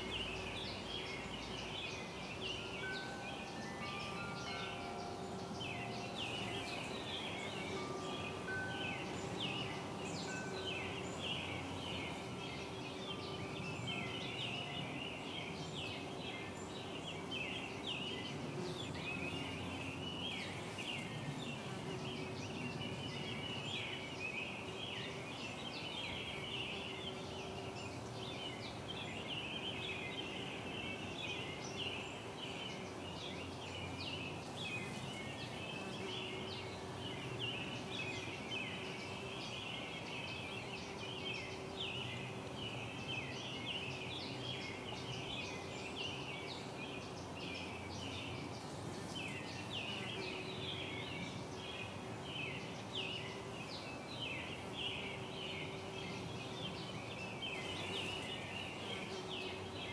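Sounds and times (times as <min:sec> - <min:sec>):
birds chirping and twittering: 0:00.0 - 0:59.9.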